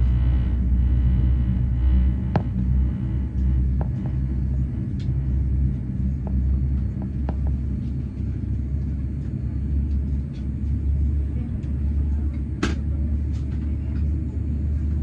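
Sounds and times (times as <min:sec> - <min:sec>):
airliner engines rumbling: 0:00.0 - 0:15.0.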